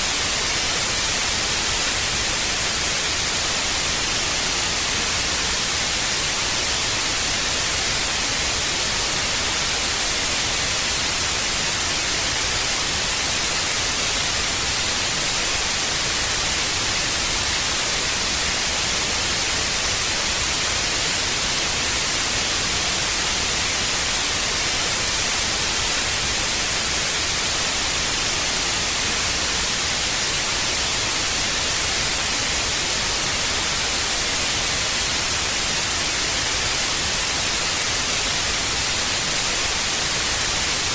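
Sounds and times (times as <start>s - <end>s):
tv static hiss: 0.0s - 40.9s.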